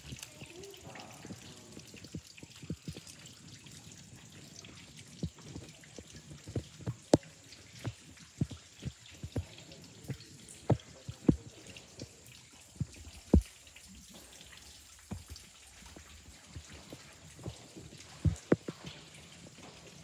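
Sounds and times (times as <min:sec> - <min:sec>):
water drops plopping: 0:00.0 - 0:03.4, 0:04.3 - 0:19.8.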